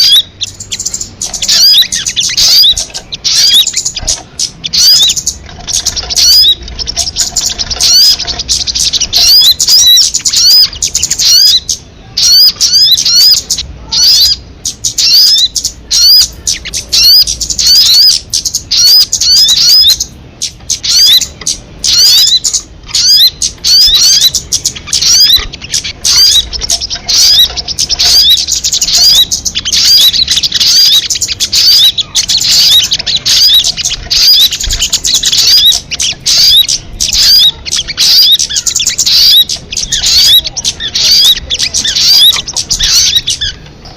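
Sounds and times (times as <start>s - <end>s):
bird chirping rapidly: 0.0s - 43.9s.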